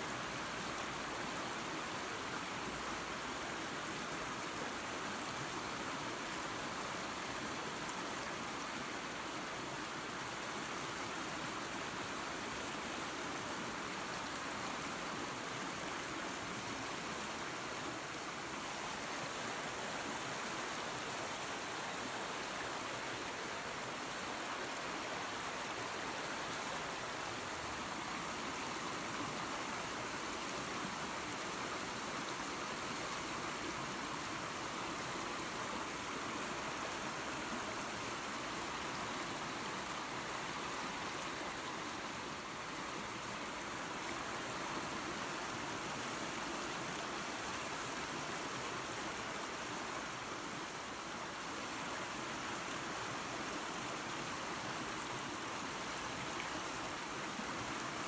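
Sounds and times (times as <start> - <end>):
creek water rushing: 0.0 - 58.0
small waterfall: 0.0 - 58.0.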